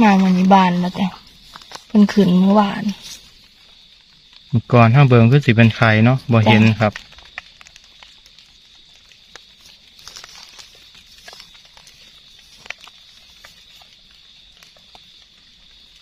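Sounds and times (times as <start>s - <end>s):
fingers rustling soil and leaves: 0.0s - 16.0s.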